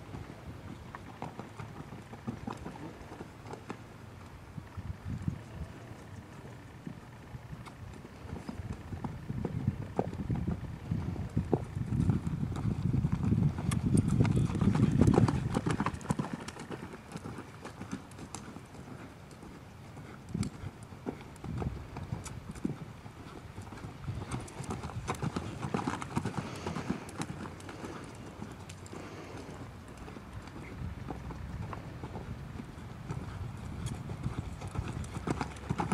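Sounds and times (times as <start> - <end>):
horse hoofbeats on dirt: 0.0 - 4.0, 5.0 - 35.9.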